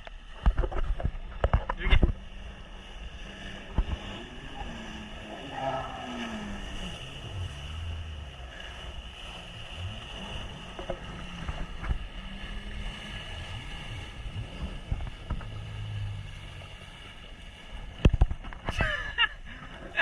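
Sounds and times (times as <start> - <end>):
wind on microphone: 0.0 - 8.5, 9.4 - 17.0
jet ski engine running: 0.0 - 20.0.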